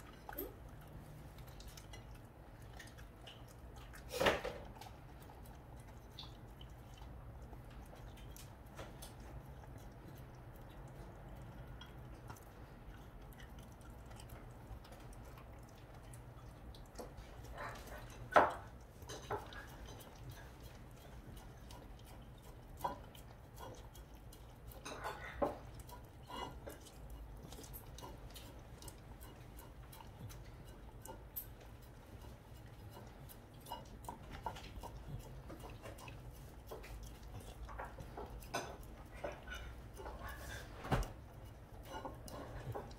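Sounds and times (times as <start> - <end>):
dog licking plate: 0.0 - 42.9.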